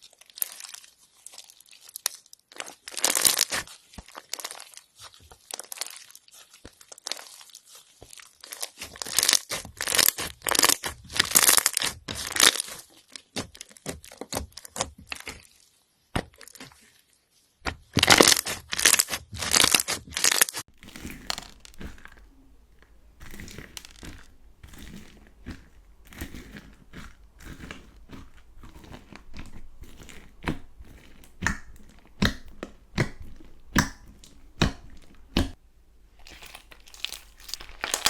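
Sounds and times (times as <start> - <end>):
slime crackling and crunching: 0.0 - 38.0.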